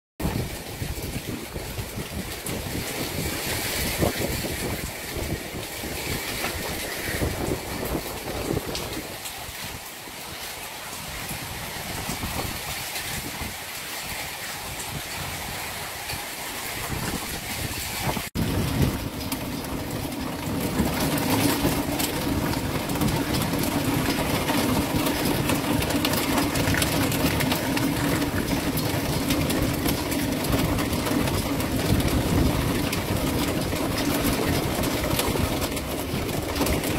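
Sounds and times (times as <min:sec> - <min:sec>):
heavy rain hissing: 0:00.2 - 0:36.9.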